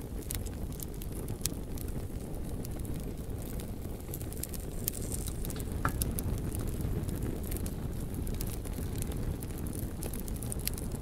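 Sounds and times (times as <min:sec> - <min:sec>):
fire crackling and popping: 0:00.0 - 0:11.0
low roar of flames: 0:00.0 - 0:11.0.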